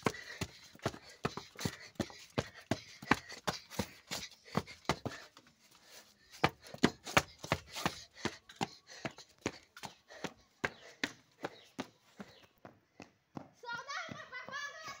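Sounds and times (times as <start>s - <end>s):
hurried footsteps on pavement: 0.0s - 15.0s.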